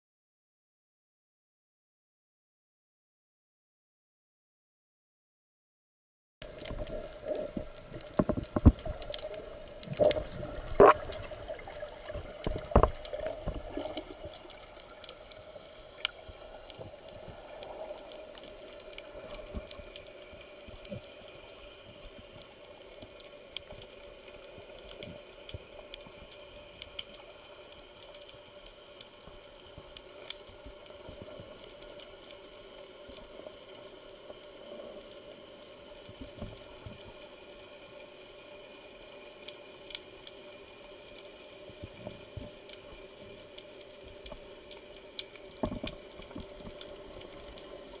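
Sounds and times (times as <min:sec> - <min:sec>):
faint steady hum: 0:06.4 - 0:48.0
sharp underwater clicks and crackles: 0:06.4 - 0:48.0
water sounds: 0:06.4 - 0:48.0.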